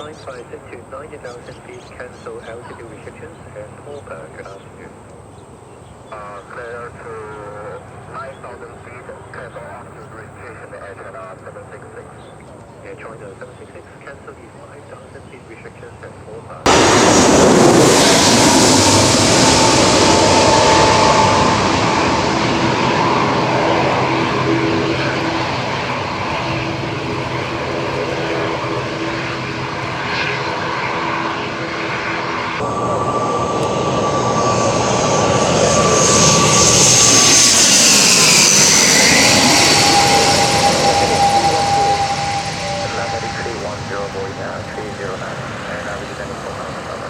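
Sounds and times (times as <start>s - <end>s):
airliner engines passing: 0.0s - 47.0s.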